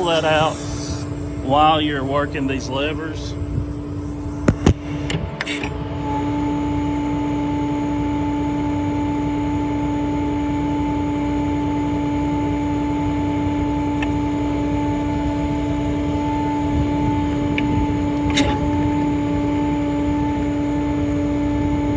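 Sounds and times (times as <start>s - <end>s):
diesel engine running: 0.0s - 21.9s
hydraulic whine: 0.0s - 21.9s.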